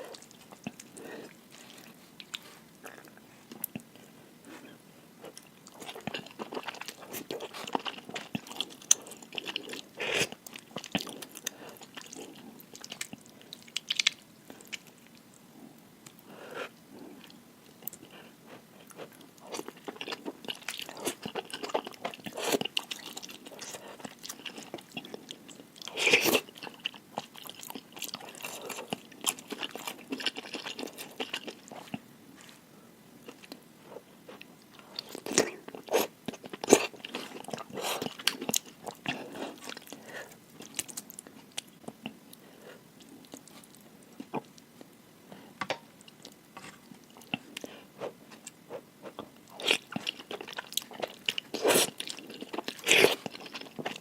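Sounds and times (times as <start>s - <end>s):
person chewing noodles: 0.0s - 54.0s.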